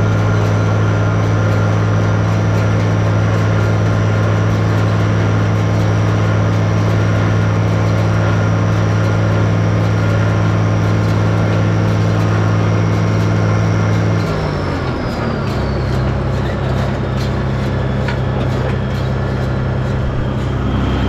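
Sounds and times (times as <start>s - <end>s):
high whine: 0.0s - 21.0s
machinery clicks and knocks: 0.0s - 21.0s
tractor engine drone: 0.0s - 21.0s.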